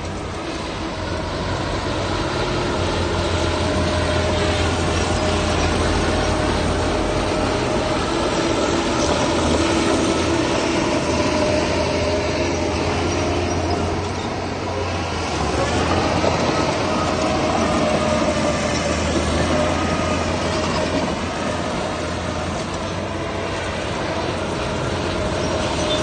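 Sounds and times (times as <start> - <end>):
diesel engine hum: 0.0 - 26.0.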